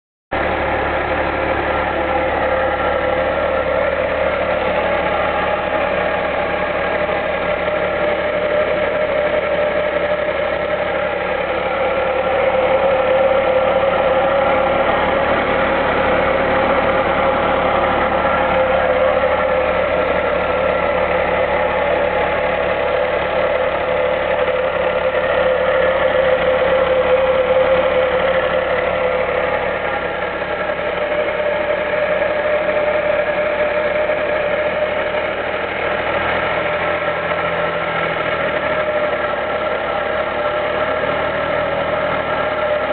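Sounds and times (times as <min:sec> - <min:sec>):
car engine running: 0:00.3 - 0:42.9
steady whine from engine: 0:00.3 - 0:42.9.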